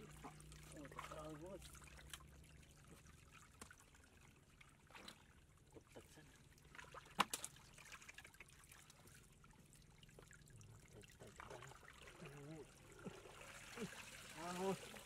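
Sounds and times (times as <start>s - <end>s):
splashing shallow water: 0.0s - 9.3s, 10.1s - 15.0s.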